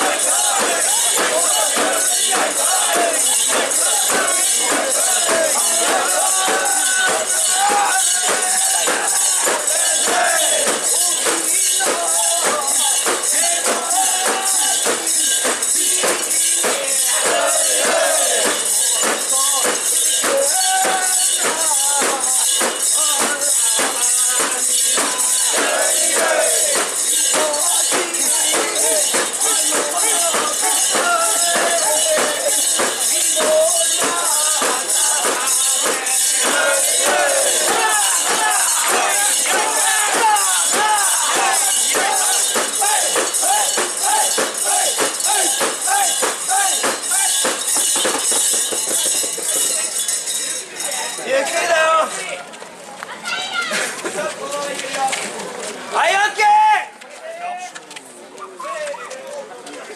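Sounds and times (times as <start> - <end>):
voices chanting: 0.0 - 48.1
metal rings jangling: 0.0 - 51.8.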